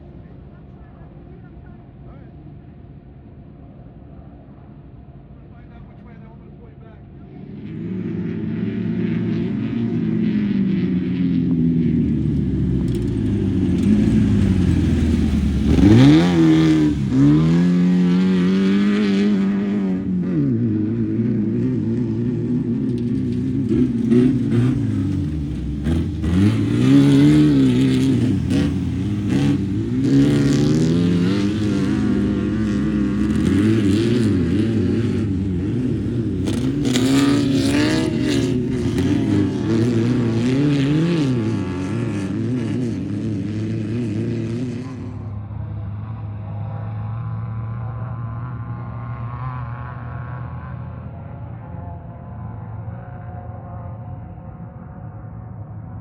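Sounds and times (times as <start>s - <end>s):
vehicle engine revving: 7.3s - 55.0s.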